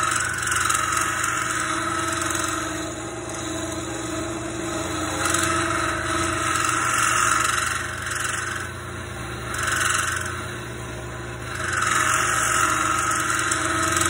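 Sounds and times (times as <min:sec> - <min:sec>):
lathe motor hum: 0:00.0 - 0:14.0
tool scraping spinning wood: 0:00.0 - 0:14.0.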